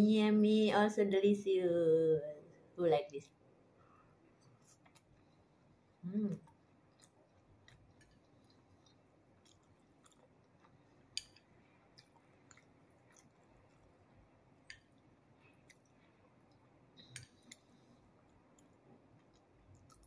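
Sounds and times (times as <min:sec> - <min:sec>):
person chewing food: 0:03.3 - 0:20.0.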